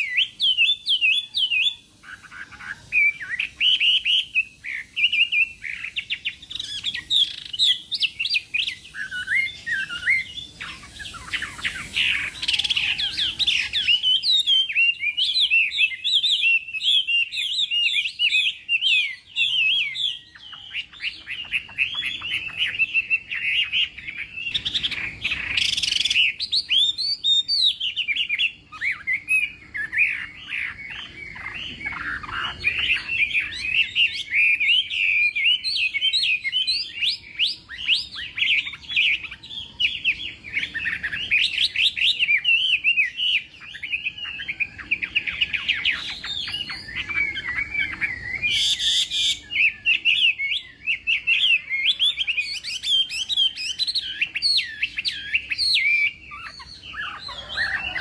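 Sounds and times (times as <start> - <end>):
bird singing whistled notes: 0.0 - 58.0
harsh scratchy bird calls: 0.0 - 58.0.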